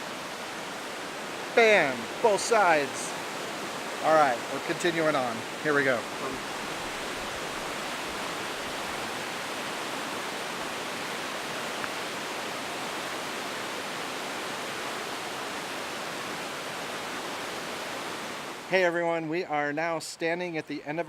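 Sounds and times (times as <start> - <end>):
river rapids rushing: 0.0 - 18.7.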